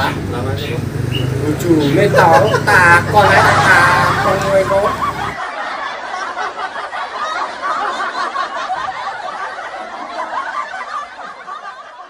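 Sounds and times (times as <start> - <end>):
continuous laughter: 1.1 - 12.0.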